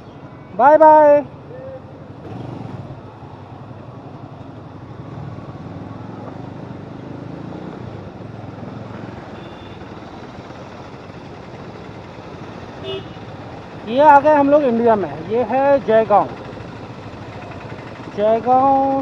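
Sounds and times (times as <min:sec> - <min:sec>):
road and traffic noise: 0:00.0 - 0:19.0
motorcycle running: 0:01.9 - 0:19.0.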